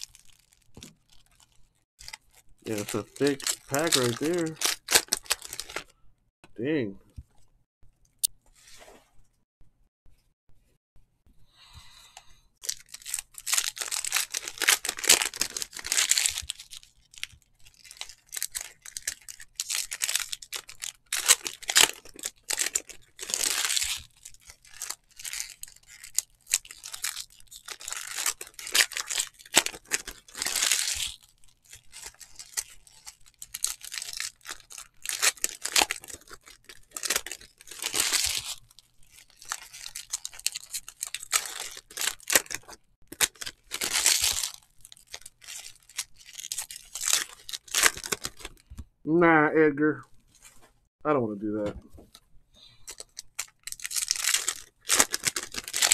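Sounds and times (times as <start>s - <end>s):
foil wrappers tearing and crinkling: 0.0s - 5.9s, 12.6s - 48.7s, 52.8s - 55.9s.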